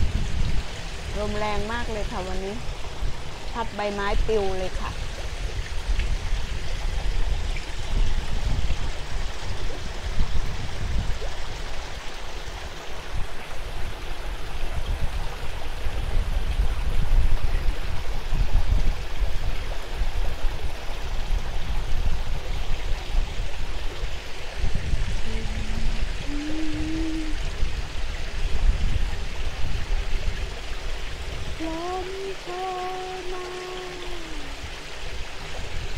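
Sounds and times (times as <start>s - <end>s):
waterfall splashing into pond: 0.0s - 35.9s
wind buffeting microphone: 0.0s - 35.9s.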